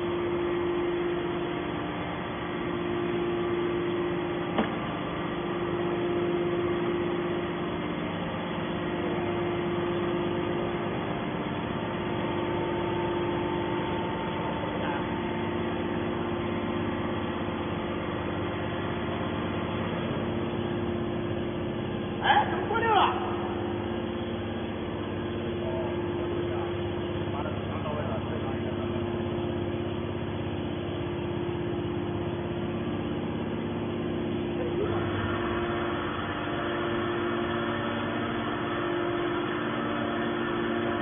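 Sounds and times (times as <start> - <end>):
machine hum with steady tone: 0.0 - 41.0.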